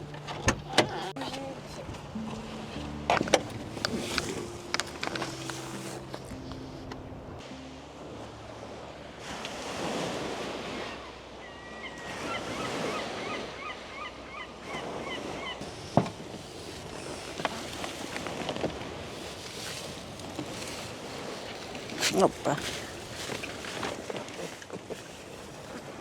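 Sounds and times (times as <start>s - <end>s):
sea waves washing ashore: 0.0s - 26.0s
wind: 0.0s - 26.0s.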